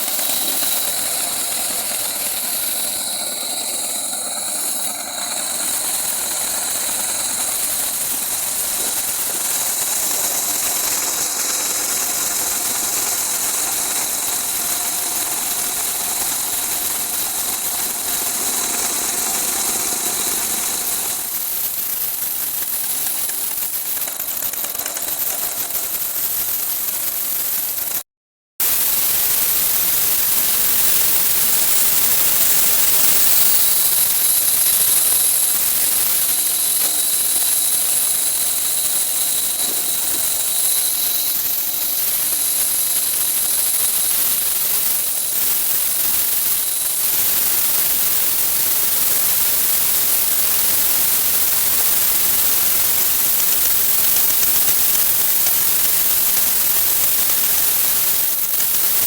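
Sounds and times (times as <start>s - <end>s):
mechanical running noise: 0.0s - 28.0s, 28.6s - 59.0s.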